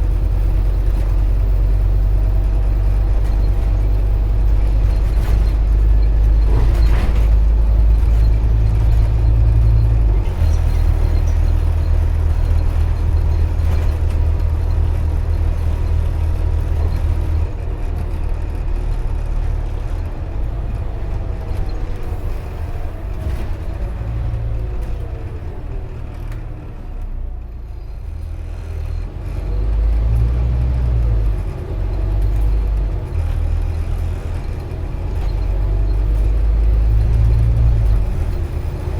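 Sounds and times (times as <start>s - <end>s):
bus diesel engine rumbling: 0.0s - 38.9s
falling whine of slowing bus: 0.0s - 38.9s.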